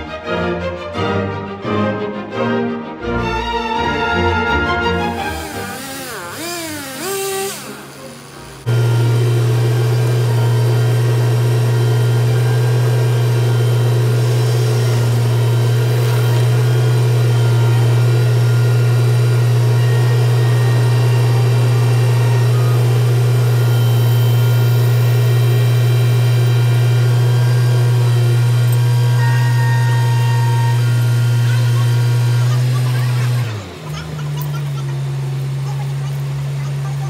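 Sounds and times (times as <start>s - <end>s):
truck engine running: 5.1s - 37.0s.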